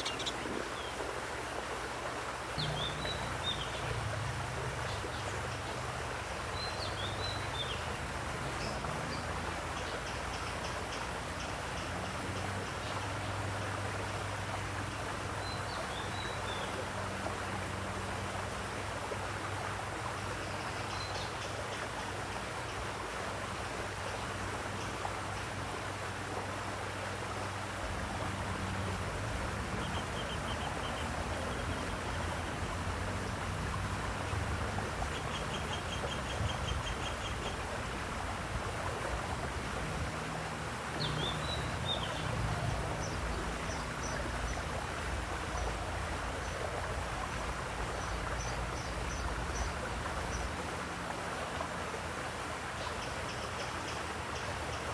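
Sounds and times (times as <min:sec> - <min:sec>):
flowing water rushing: 0:00.0 - 0:54.9.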